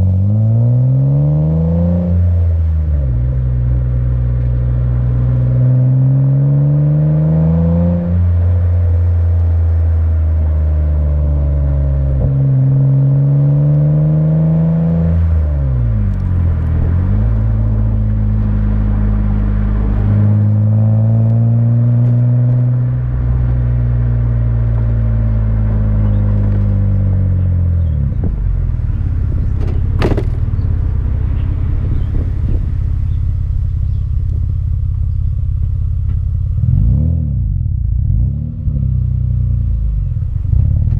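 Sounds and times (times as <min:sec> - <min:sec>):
car exhaust revving: 0:00.0 - 0:40.9.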